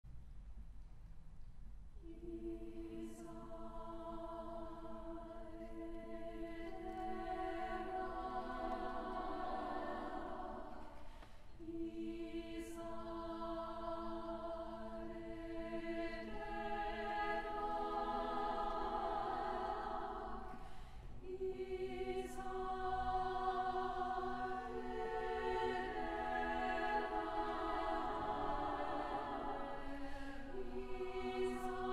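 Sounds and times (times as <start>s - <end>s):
women's choir singing: 2.0s - 31.9s.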